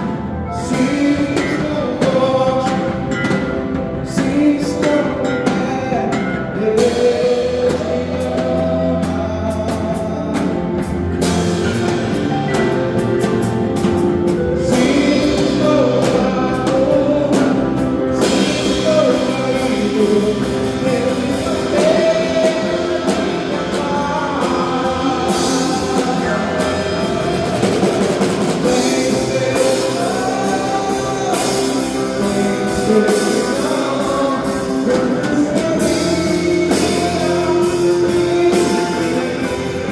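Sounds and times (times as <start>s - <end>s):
drum kit with cymbals: 0.0s - 39.9s
guitar: 0.0s - 39.9s
person singing: 0.0s - 39.9s.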